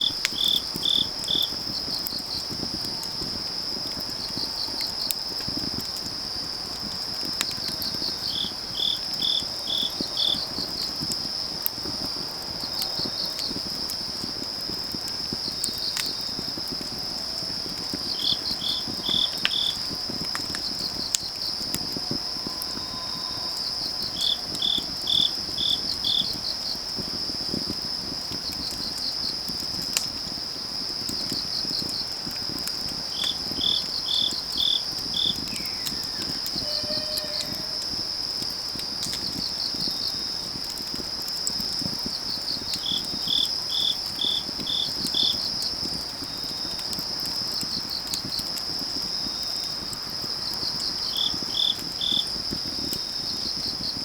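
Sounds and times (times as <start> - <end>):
crickets chirping: 0.0 - 54.0
firewood crackling: 0.0 - 54.0
insects trilling: 0.0 - 54.0.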